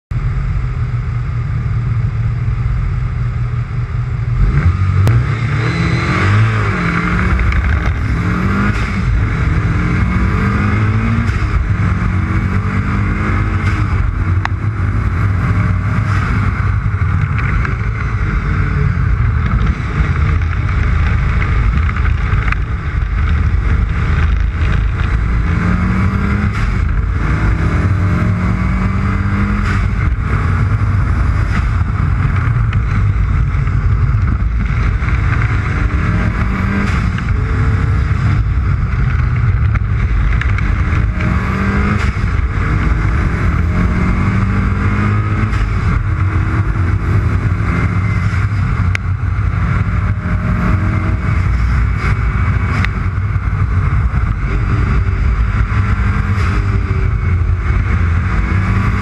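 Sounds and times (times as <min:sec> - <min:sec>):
wind and road noise: 0:00.0 - 0:59.0
race engine accelerating: 0:03.6 - 0:59.0.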